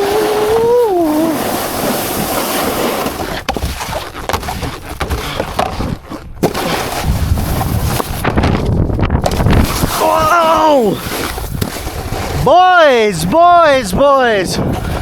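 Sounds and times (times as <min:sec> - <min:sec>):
wind on microphone: 0:00.0 - 0:02.4, 0:05.3 - 0:15.0
snowboard scraping over snow: 0:00.0 - 0:15.0.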